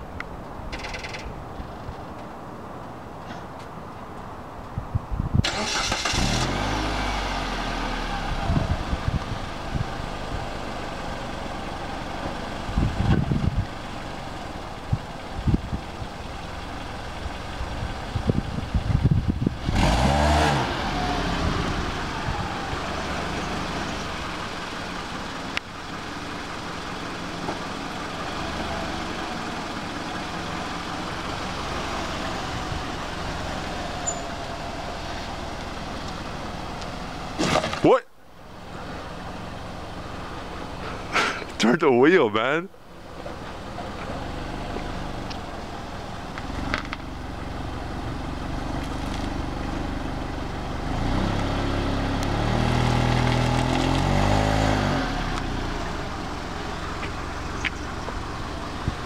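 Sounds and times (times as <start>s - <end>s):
car engine idling and revving: 0.0s - 41.7s, 42.7s - 59.0s.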